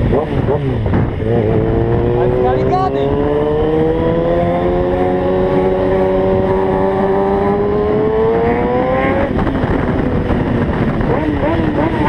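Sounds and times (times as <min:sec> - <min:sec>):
motorcycle engine under throttle: 0:00.0 - 0:12.0
wind noise: 0:00.0 - 0:12.0.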